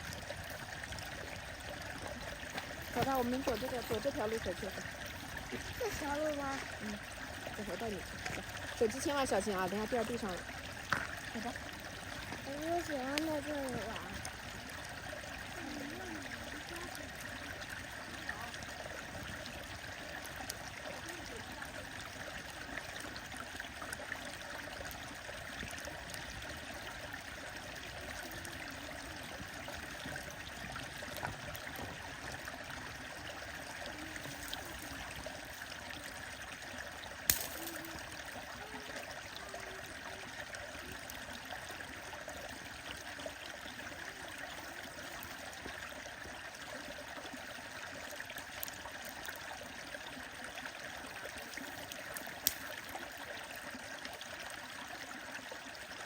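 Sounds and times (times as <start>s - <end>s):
stream water over rocks: 0.0s - 56.0s.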